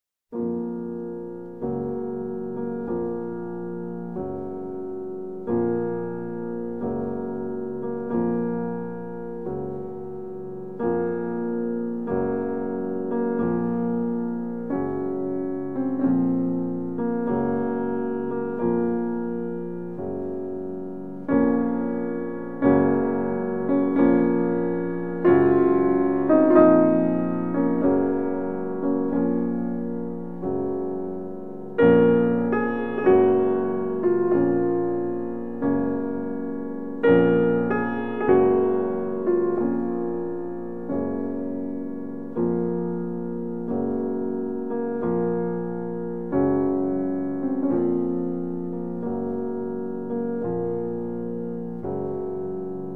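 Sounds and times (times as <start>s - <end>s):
piano chords: 0.3s - 52.9s.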